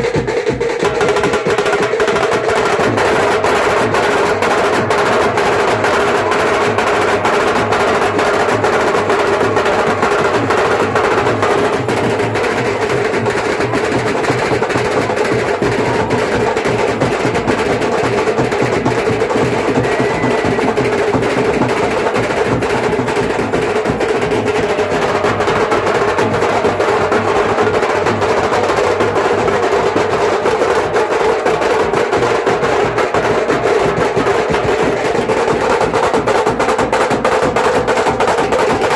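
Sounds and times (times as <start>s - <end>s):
fast loud drums and percussion: 0.0s - 38.9s.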